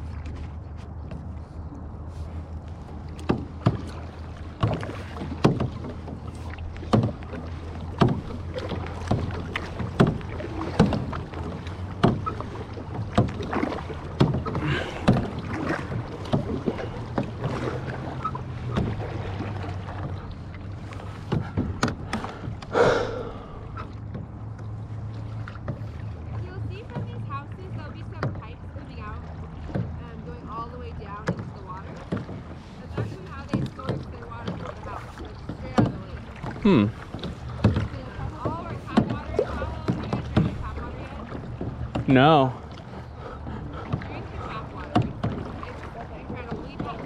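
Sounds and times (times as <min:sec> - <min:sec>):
paddle knocks and clacks: 0:00.0 - 0:47.0
paddle splashing in water: 0:00.0 - 0:47.0.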